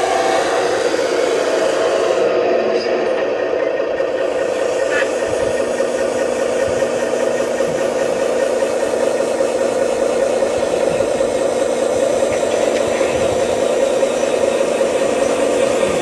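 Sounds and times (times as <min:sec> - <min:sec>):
model machine mechanical whine: 0:00.0 - 0:16.0.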